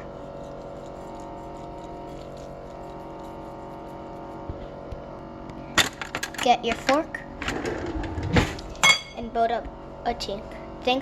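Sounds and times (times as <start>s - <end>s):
steady hum of held tones: 0.0s - 11.0s.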